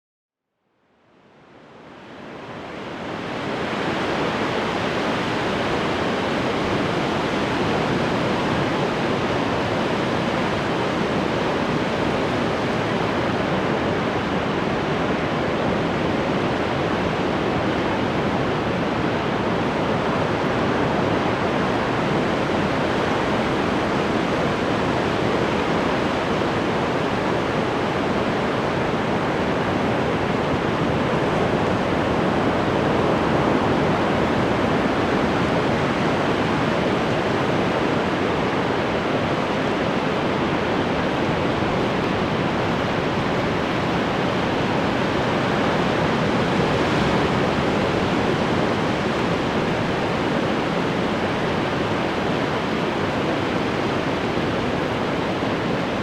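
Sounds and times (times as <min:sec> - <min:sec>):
ocean surf washing on shore: 0:01.6 - 0:56.0.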